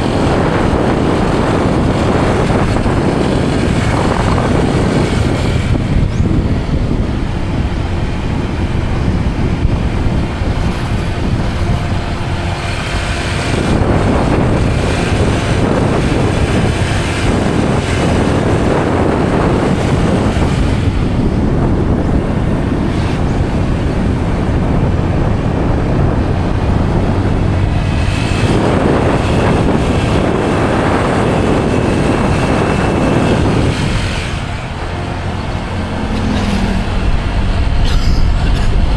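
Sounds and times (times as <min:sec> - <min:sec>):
vehicle rumble on road: 0:00.0 - 0:38.9
wind buffeting microphone: 0:00.0 - 0:38.9.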